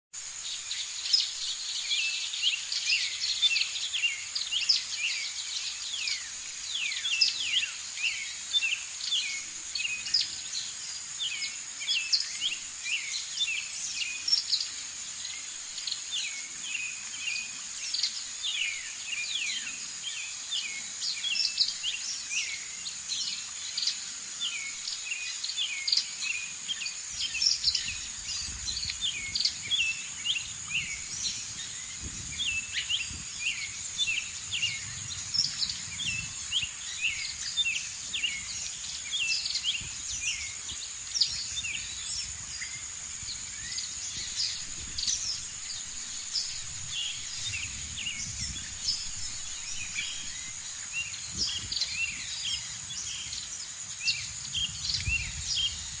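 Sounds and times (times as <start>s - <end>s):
birds chirping and singing: 0.2s - 56.0s.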